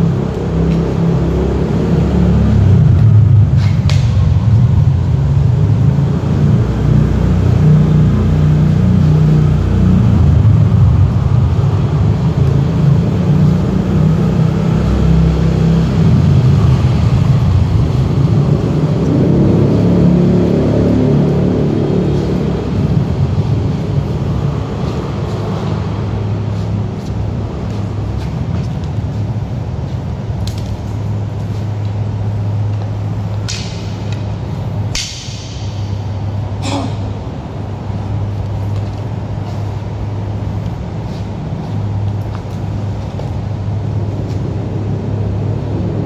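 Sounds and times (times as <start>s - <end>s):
low rumble: 0.0s - 46.0s.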